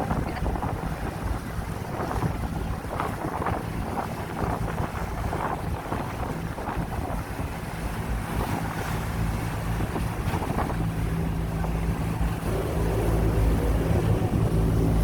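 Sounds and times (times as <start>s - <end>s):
boat engine humming: 0.0s - 15.0s
wind gusting on microphone: 0.0s - 15.0s.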